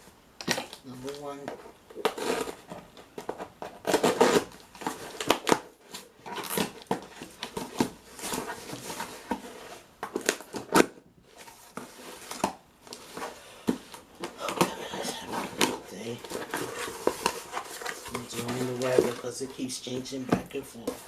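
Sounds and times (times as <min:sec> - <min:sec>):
cardboard box packaging rustling: 0:00.5 - 0:21.0.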